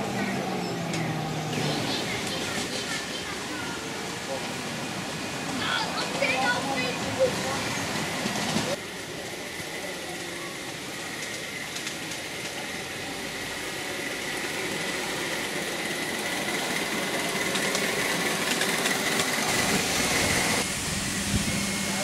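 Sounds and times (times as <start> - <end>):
miniature train running on track: 0.0 - 22.0.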